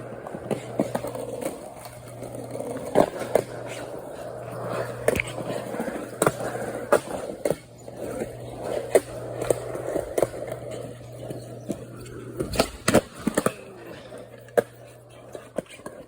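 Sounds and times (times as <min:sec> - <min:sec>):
skateboard clacks: 0:00.0 - 0:16.0
skateboard wheels rumbling: 0:00.0 - 0:16.0.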